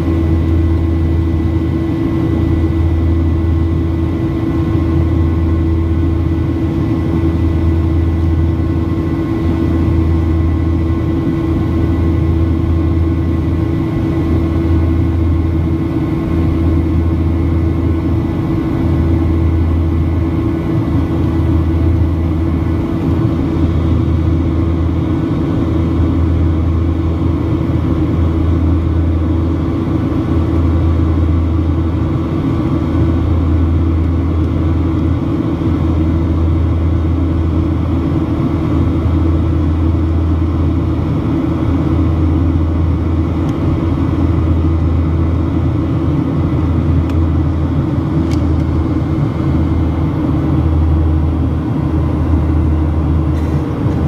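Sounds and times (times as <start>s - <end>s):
airplane engines and airflow drone: 0.0s - 54.0s.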